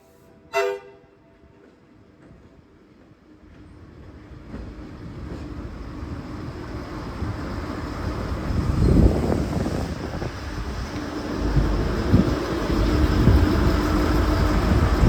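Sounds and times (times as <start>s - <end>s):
diesel railcars passing: 0.0s - 15.0s.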